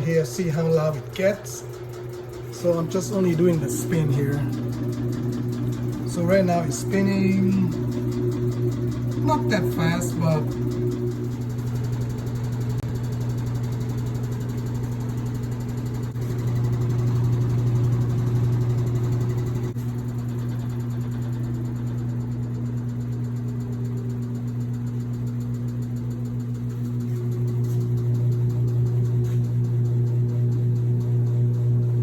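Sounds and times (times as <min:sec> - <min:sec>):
washing machine spinning: 0:00.0 - 0:32.0.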